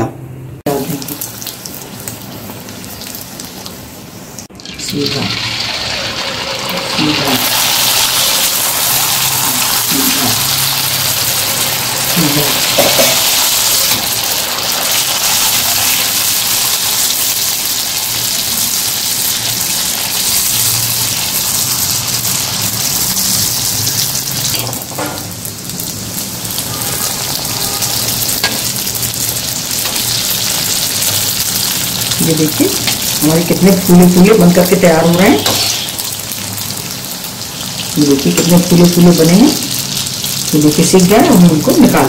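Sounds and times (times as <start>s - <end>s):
dough deep-frying in oil: 0.7s - 42.0s.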